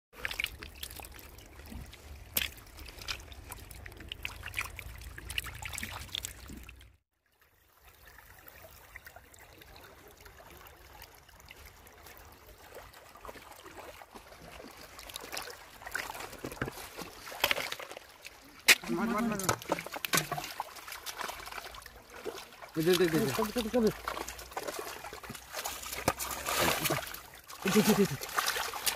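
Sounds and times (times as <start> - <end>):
feet wading in water: 0.2 - 6.9, 7.7 - 28.9
water pouring from pipes: 0.2 - 7.0, 7.7 - 28.9
water trickling over mud: 0.2 - 28.9.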